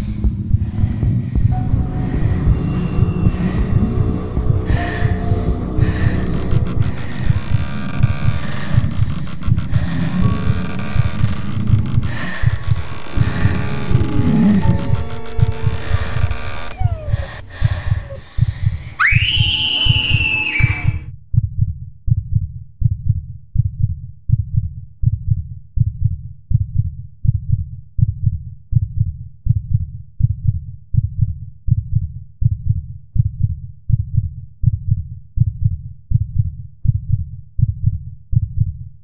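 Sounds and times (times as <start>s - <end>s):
heartbeat thumps: 0.0s - 38.7s.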